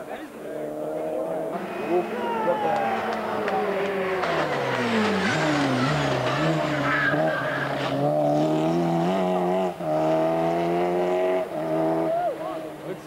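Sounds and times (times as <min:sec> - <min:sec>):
rally car engine revving: 0:00.3 - 0:13.0.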